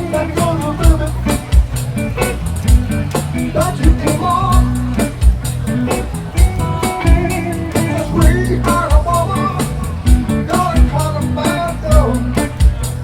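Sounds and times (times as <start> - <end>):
guitar melody: 0.0 - 13.0
live band playing: 0.0 - 13.0.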